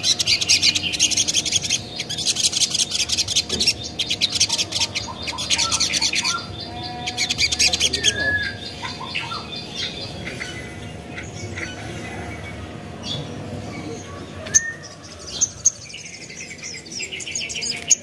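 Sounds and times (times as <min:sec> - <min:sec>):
bird chattering trills: 0:00.0 - 0:18.0.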